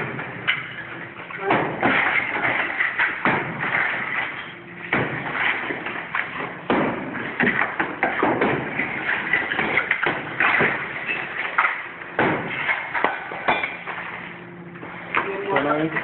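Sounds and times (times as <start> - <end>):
construction knocks and thuds: 0.0 - 13.9.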